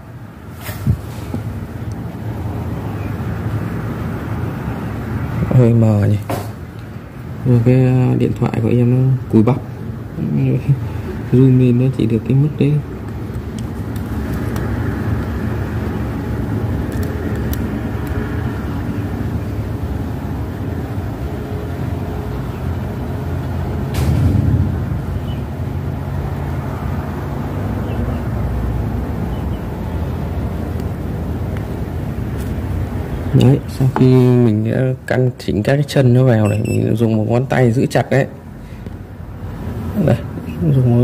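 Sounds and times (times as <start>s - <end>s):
low background rumble: 0.0s - 33.7s.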